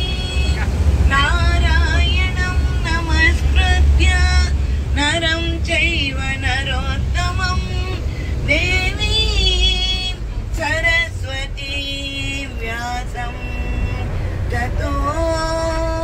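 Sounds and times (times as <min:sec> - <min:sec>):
moving bus rumble: 0:00.0 - 0:16.0
woman singing devotional song: 0:00.0 - 0:16.0.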